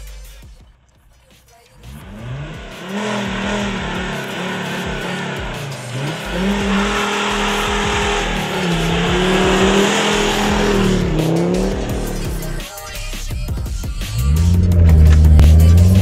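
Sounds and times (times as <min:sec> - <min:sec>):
diesel car accelerating hard: 0:01.8 - 0:16.0.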